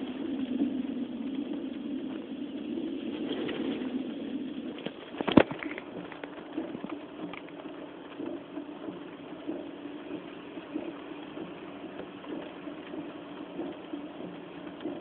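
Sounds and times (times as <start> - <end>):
rain noise: 0.0 - 15.0.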